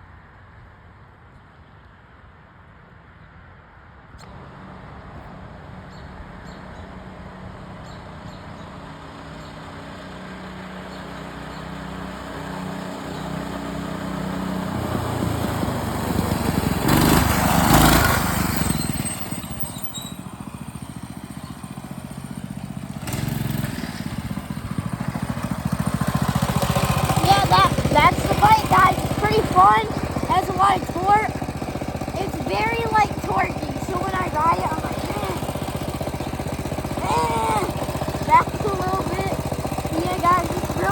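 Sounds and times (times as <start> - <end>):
mini bike engine running: 8.1 - 40.9.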